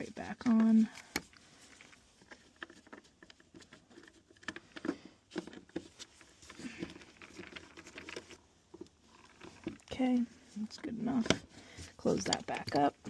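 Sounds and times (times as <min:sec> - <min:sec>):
screw clicks and scrapes: 0:00.4 - 0:09.9, 0:11.2 - 0:13.0.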